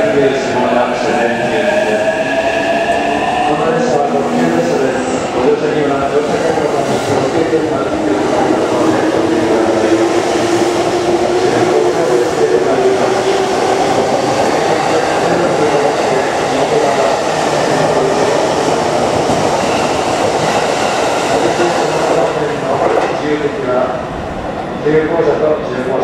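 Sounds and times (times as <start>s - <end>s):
electric train passing: 0.0s - 22.7s.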